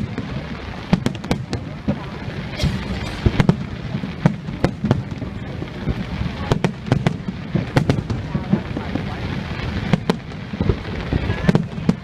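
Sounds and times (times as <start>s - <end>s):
fireworks sharp bangs: 0.0s - 12.0s.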